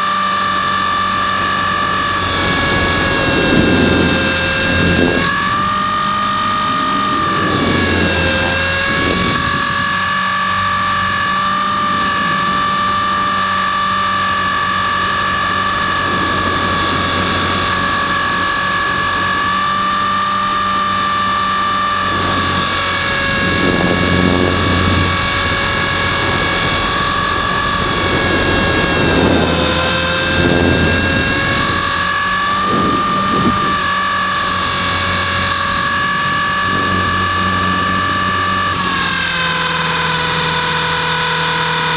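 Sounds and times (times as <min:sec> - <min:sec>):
low buffeting: 0:00.0 - 0:41.9
rc helicopter motor whine: 0:00.0 - 0:41.9
rotor noise: 0:00.0 - 0:41.9.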